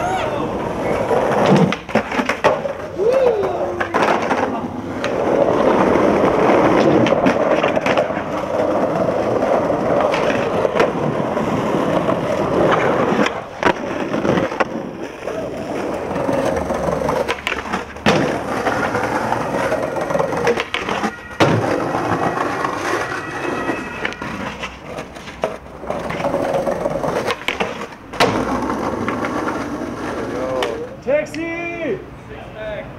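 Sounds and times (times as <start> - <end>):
skateboard tail clacks: 0.0 - 31.5
skateboard wheels rolling on pavement: 0.0 - 32.9.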